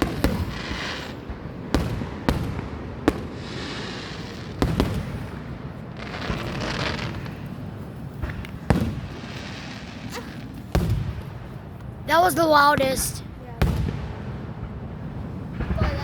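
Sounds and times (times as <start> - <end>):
fireworks hiss: 0.0 - 14.2
fireworks bangs: 0.0 - 16.0.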